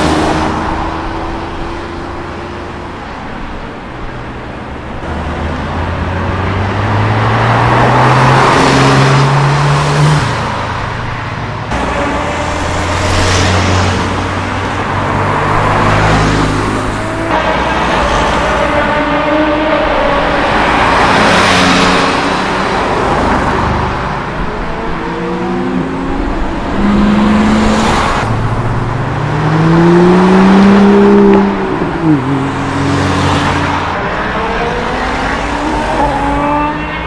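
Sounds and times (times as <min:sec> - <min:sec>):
sports car engines passing: 0:00.0 - 0:37.0.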